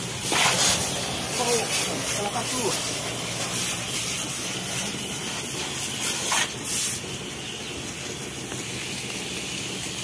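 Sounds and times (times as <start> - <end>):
pressure washer spraying: 0.0 - 10.0.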